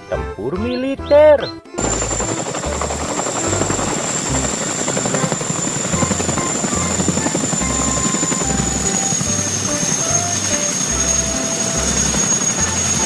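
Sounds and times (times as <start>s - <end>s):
helicopter rotors chopping: 1.8s - 13.0s
high turbine whine: 1.8s - 13.0s.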